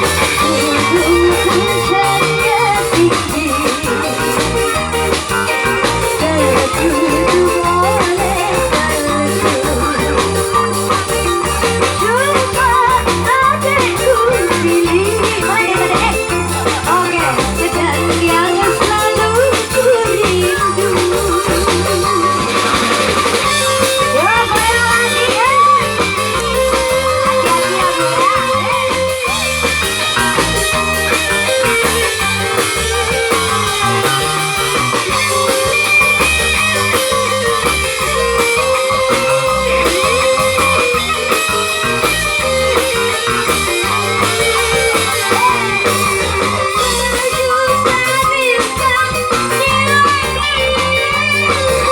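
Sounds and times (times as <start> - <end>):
drum kit beat: 0.0 - 51.9
guitar: 0.0 - 51.9
wavering melody line: 0.0 - 51.9.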